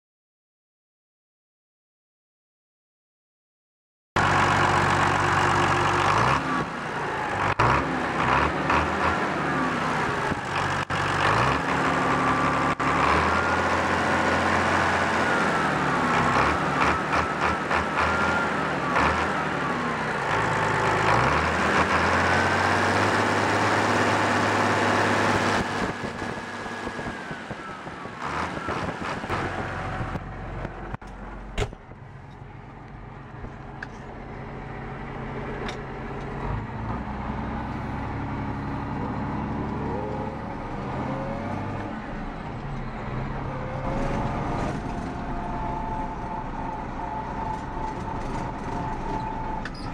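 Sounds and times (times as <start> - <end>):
tractor diesel engine revving: 4.2 - 49.9.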